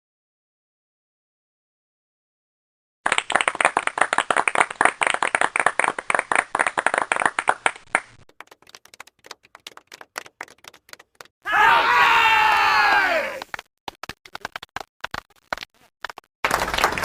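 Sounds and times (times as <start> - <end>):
group applause: 3.1 - 17.0.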